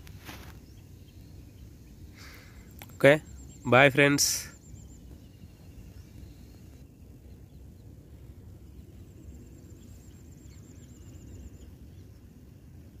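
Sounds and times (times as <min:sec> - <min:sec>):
small birds calling: 0:00.0 - 0:13.0
steady low rumble: 0:00.0 - 0:13.0.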